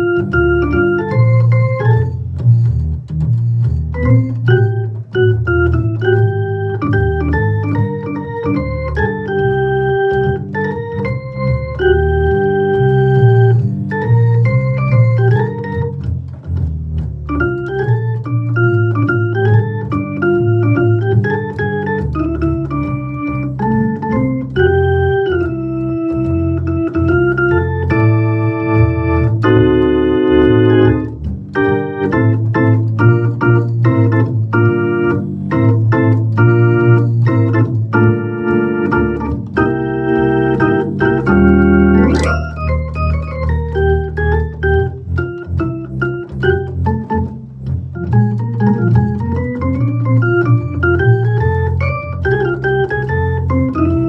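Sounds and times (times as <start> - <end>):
organ glissando: 0.0 - 54.0
organ playing chords and runs: 0.0 - 54.0.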